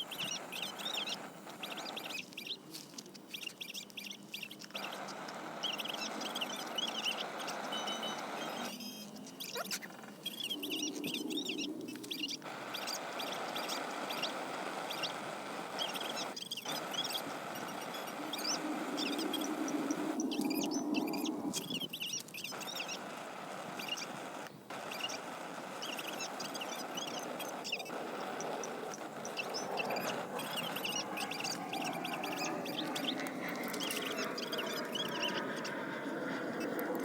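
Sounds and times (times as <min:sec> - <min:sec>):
small birds chirping: 0:00.0 - 0:37.0
steady outdoor hiss: 0:00.0 - 0:37.0.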